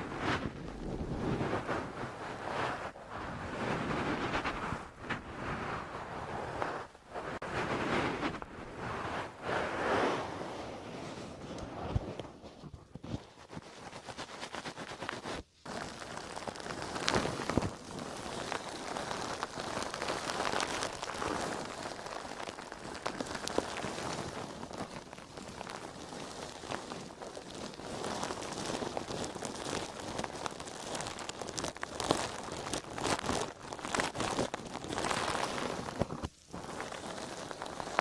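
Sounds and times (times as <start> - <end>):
dry sponge crackling: 0.0 - 38.0.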